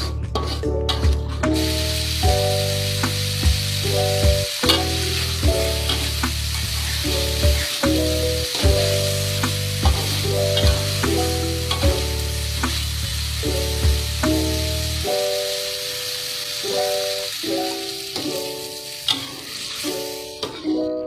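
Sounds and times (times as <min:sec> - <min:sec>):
background music: 0:00.0 - 0:21.0
squid sizzling in a pan: 0:01.6 - 0:20.7.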